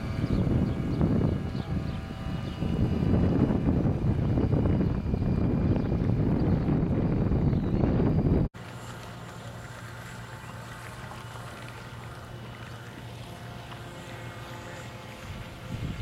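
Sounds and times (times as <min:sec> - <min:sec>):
wind rumble on microphone: 0:00.0 - 0:09.1, 0:10.3 - 0:16.0
model boat motor humming: 0:00.0 - 0:16.0.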